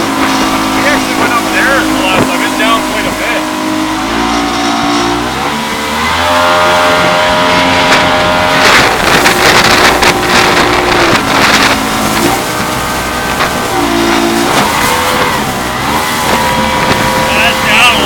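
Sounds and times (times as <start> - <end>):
jet boat engine running hard: 0.0 - 18.0
loud rushing crackling water: 0.0 - 18.0.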